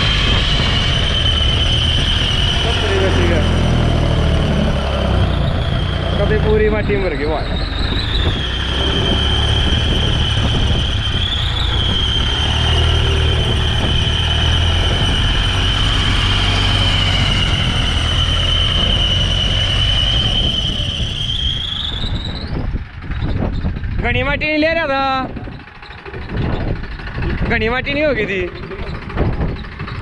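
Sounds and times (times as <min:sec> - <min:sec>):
high-pitched squeal: 0:00.0 - 0:30.0
tractor diesel engine under load: 0:00.0 - 0:30.0.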